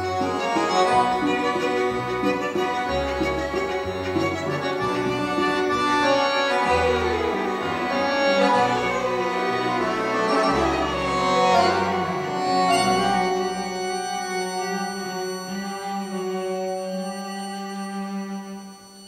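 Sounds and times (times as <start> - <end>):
tango ensemble playing: 0.0 - 17.6.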